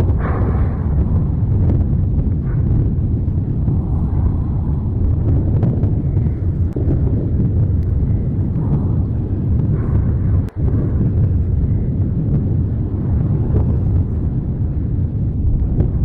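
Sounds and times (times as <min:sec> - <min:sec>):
volcano erupting deep rumble: 0:00.0 - 0:16.0.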